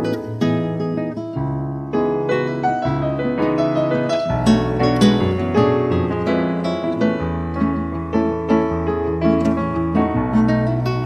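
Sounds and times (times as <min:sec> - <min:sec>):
classical guitar playing: 0:00.0 - 0:11.0
piano playing: 0:00.0 - 0:11.0.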